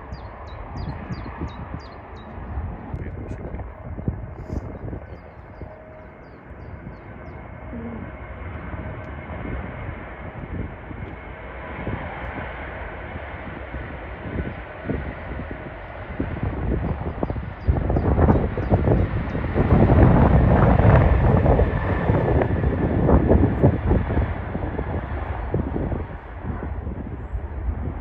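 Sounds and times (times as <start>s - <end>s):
jet engines roaring: 0.0s - 28.0s
wind buffeting microphone: 0.0s - 28.0s.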